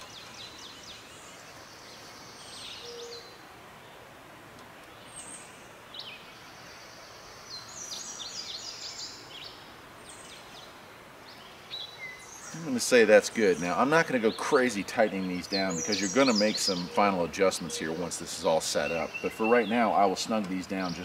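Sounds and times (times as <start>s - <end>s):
songbirds singing: 0.0s - 21.0s
steady outdoor hiss: 0.0s - 21.0s.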